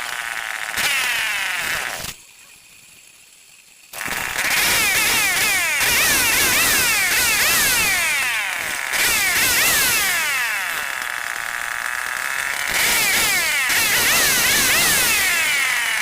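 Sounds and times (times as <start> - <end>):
chainsaw engine revving: 0.0 - 2.3, 3.0 - 16.0.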